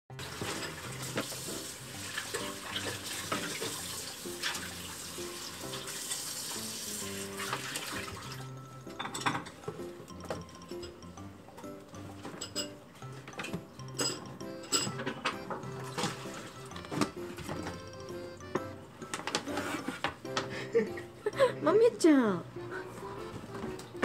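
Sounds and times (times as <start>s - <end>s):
background music with low notes: 0.1s - 24.0s.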